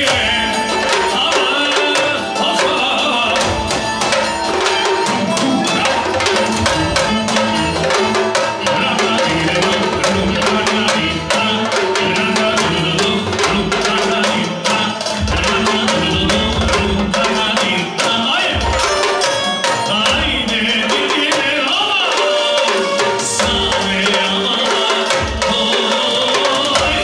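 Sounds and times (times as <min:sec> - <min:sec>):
drums struck with sticks: 0:00.0 - 0:27.0
person singing into microphone: 0:00.0 - 0:27.0.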